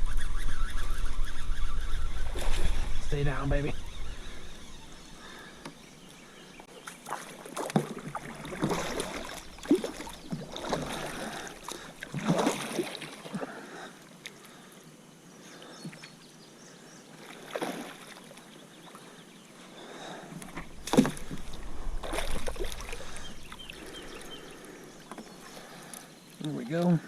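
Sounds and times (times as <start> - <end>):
water lapping: 2.0 - 27.0
water splashing around kayak: 2.1 - 14.6, 17.2 - 27.0.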